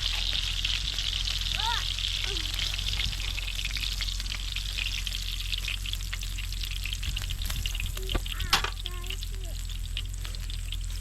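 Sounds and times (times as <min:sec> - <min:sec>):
pork sizzling in a pan: 0:00.0 - 0:11.0.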